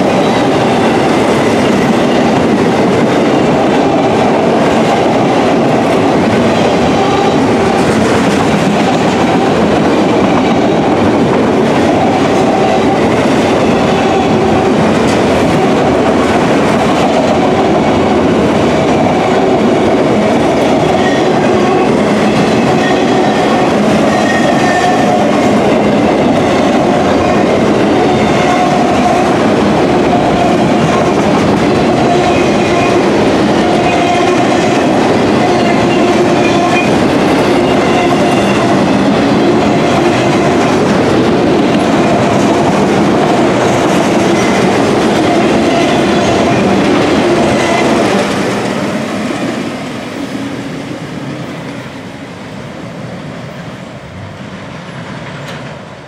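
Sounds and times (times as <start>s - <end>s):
freight cars rumbling on rails: 0.0s - 56.0s.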